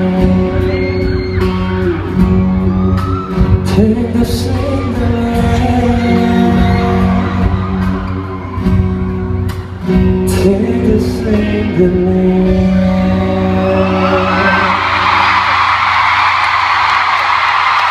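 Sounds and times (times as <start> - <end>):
guitar and bass held chords: 0.0 - 15.3
live pop-rock band: 0.0 - 17.9.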